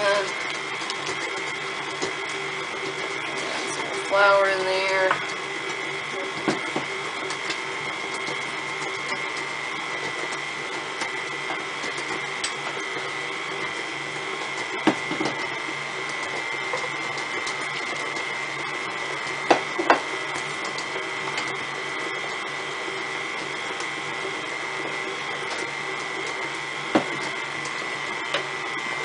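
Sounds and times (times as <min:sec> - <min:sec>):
stand mixer motor whining: 0:00.0 - 0:29.0.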